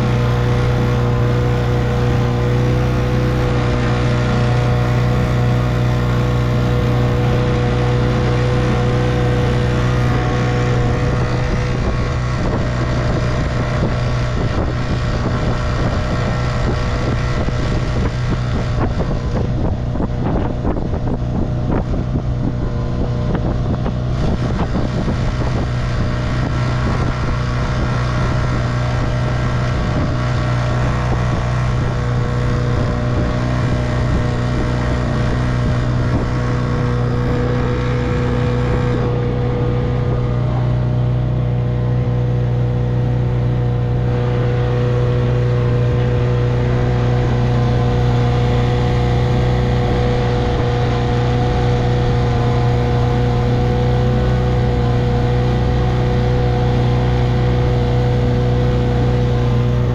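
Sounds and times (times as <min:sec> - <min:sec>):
outboard motor running: 0:00.0 - 0:59.9
wind on microphone: 0:00.0 - 0:59.9.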